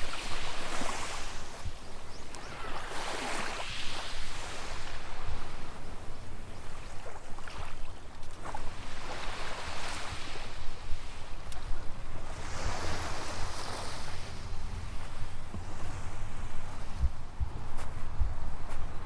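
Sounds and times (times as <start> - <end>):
waves washing onto beach: 0.0 - 19.0
wind rumble on microphone: 0.0 - 19.0.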